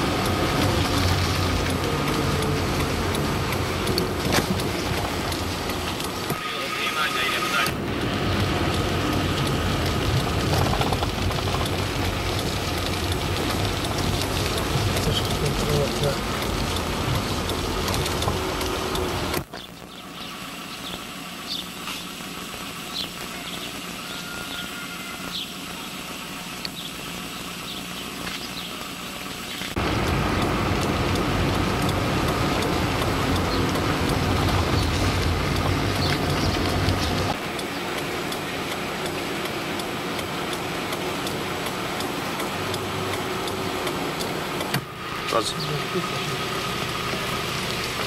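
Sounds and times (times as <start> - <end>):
vehicle engine and road rumble: 0.0 - 48.0.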